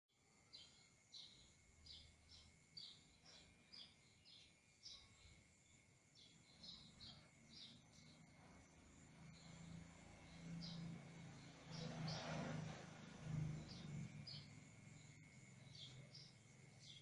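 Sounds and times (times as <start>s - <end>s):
small bird chirping: 0.1s - 17.0s.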